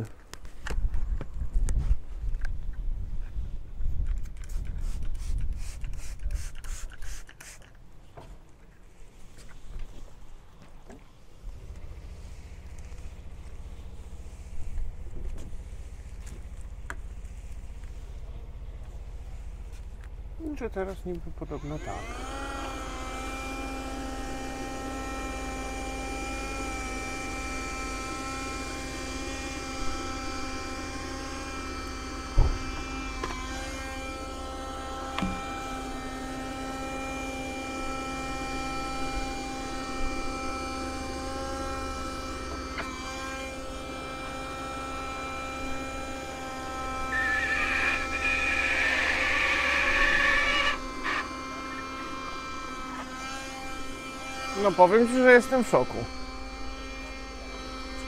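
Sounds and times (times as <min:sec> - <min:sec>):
window vacuum motor whining: 0:11.1 - 0:58.0.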